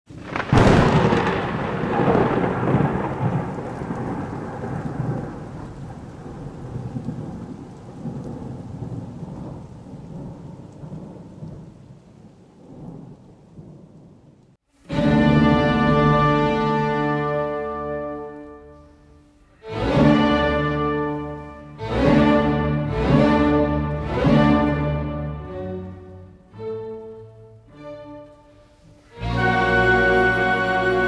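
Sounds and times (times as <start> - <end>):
thunderclap: 0.1 - 26.7
thunder rumbling: 0.1 - 31.0.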